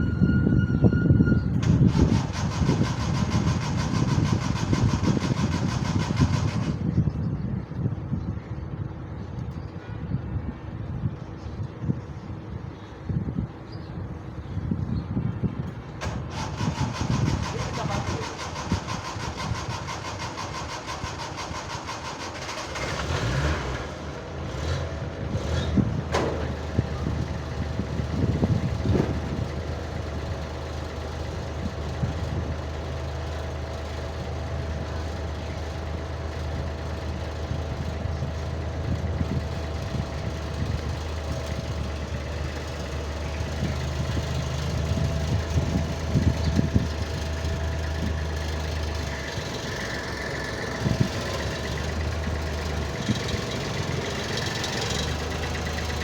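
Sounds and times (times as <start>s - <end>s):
car engine starting and idling: 0.0s - 9.6s, 15.4s - 56.0s.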